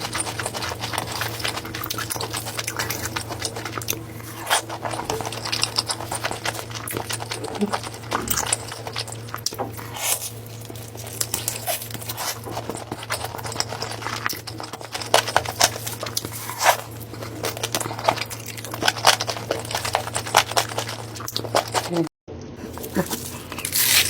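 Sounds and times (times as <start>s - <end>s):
crisp chewing of food: 0.0s - 24.0s
steady low hum: 0.0s - 24.0s.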